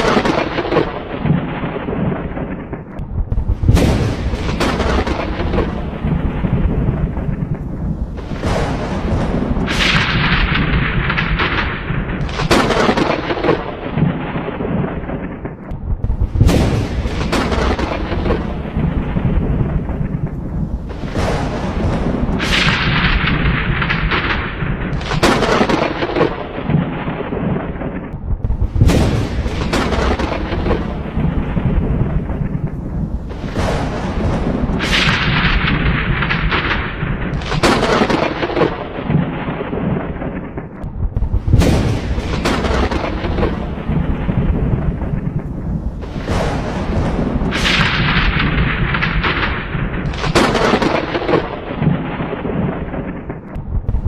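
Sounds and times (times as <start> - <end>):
rolling thunder: 0.0 - 54.0.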